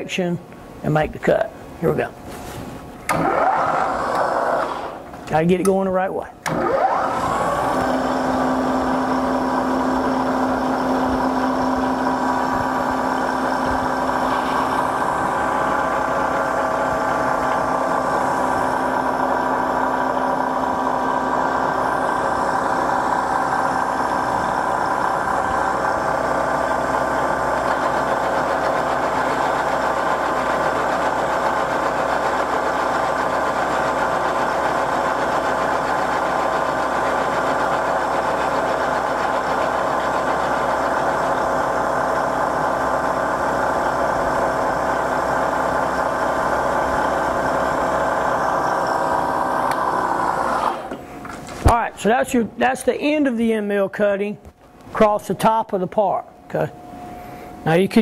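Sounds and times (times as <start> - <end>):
milling machine spindle humming: 3.0 - 5.4, 6.4 - 51.4.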